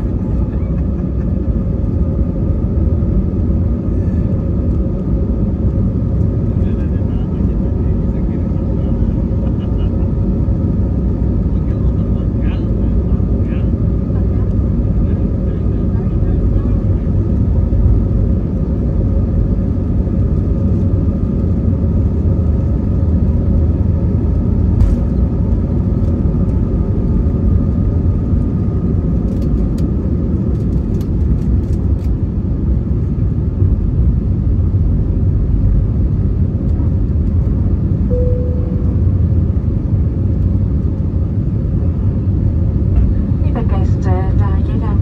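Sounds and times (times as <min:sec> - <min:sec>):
airplane cabin rumble: 0:00.0 - 0:45.0.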